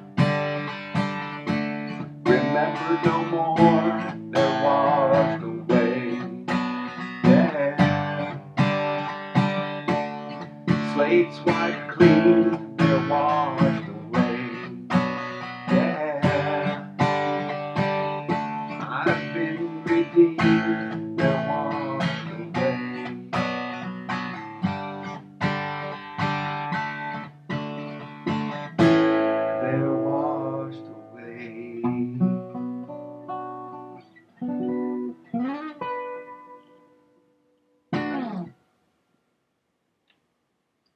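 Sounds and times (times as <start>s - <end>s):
acoustic guitar strumming: 0.0s - 38.6s.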